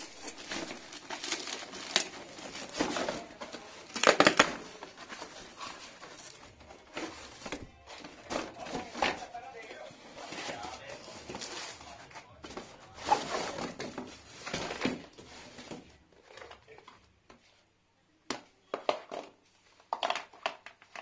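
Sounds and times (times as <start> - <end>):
cardboard rustling and scraping: 0.0 - 16.8.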